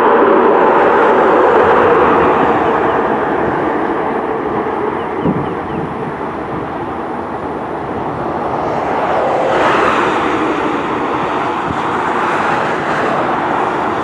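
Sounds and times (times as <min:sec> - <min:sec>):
airliner engines running: 0:00.0 - 0:14.0.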